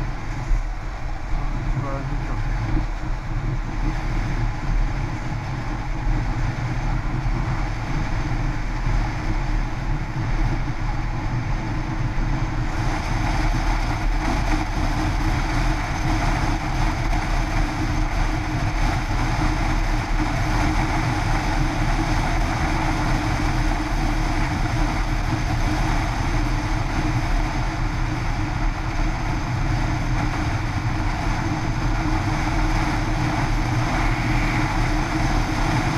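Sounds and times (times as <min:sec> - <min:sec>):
wind rush and tyre noise: 0:00.0 - 0:35.9.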